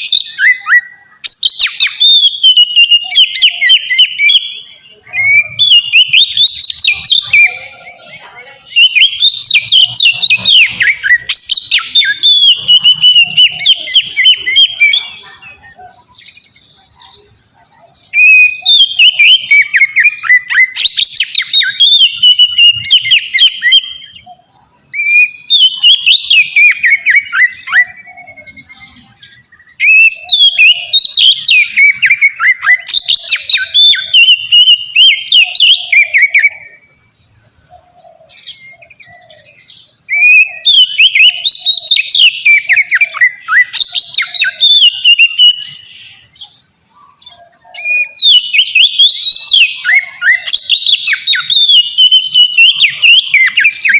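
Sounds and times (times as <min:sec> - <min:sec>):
songbird whistling song: 0:00.0 - 0:53.9.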